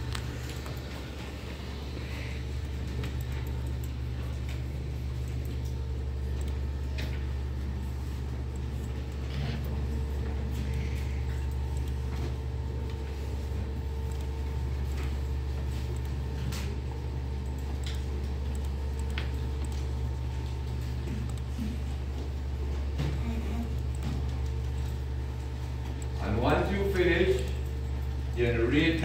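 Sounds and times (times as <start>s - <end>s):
computers humming: 0.0s - 29.0s.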